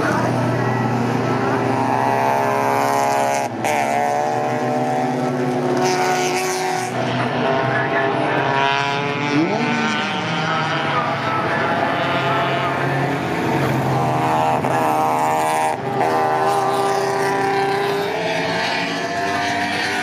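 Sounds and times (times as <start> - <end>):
racing car engines running hard: 0.0 - 20.0.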